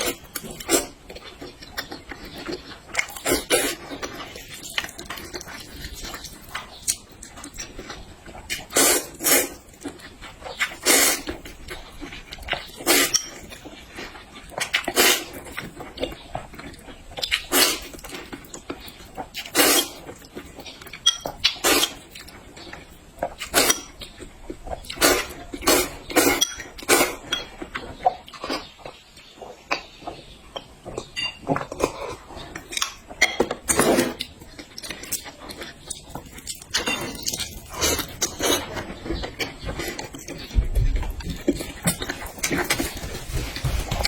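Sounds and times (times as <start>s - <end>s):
person chewing: 0.0s - 44.0s.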